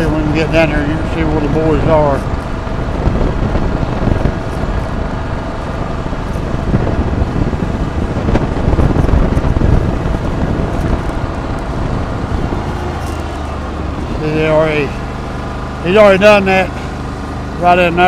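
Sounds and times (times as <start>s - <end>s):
wind rumbling on microphone: 0.0s - 15.8s
vehicle engine running: 0.0s - 18.0s.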